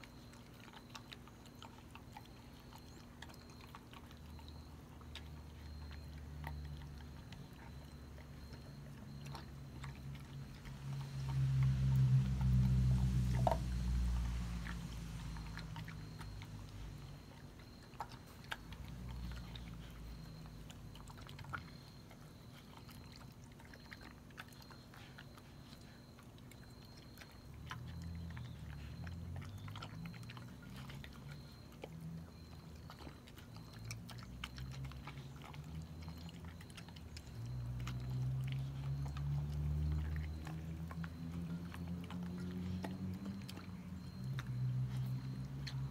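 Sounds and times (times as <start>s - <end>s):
dog crunching dry kibble: 0.0s - 45.9s
low hum: 2.6s - 45.9s.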